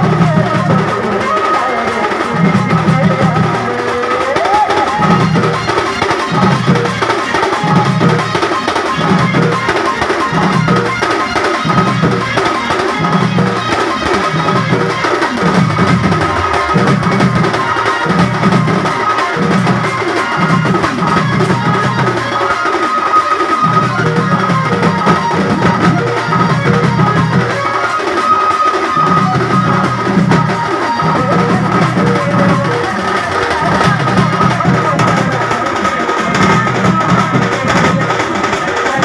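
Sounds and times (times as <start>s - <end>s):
heavy low drum beat: 0.0s - 1.2s, 4.9s - 22.4s, 23.6s - 27.7s, 29.0s - 39.0s
amplified band music: 0.0s - 39.0s.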